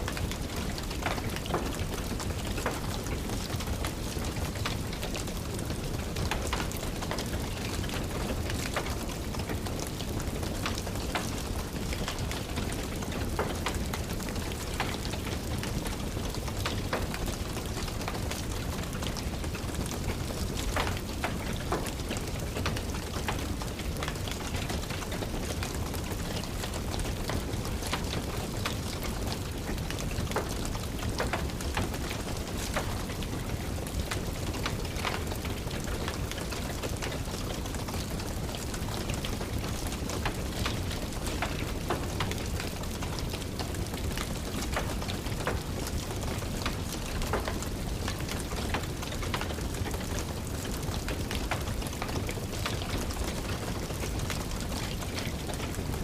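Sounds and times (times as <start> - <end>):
rain falling: 0.0 - 56.0
wood fire crackling: 0.0 - 56.0.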